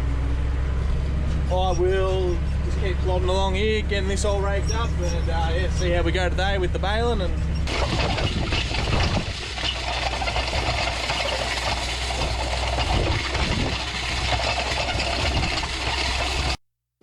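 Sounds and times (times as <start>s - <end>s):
tractor engine running: 0.0s - 16.6s.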